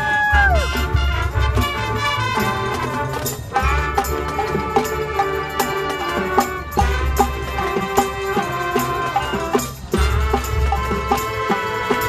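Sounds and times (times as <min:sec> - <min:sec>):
drumline hits: 0:00.0 - 0:12.0
brass holding chords: 0:00.3 - 0:12.0.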